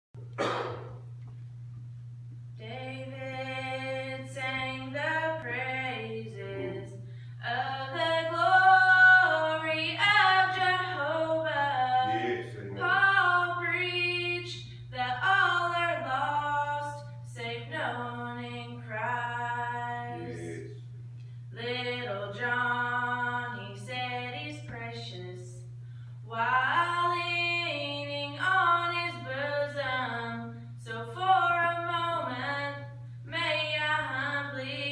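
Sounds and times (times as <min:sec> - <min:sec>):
low hum: 0:00.2 - 0:34.9
woman singing into microphone: 0:02.6 - 0:20.6, 0:21.5 - 0:25.6, 0:26.3 - 0:34.9.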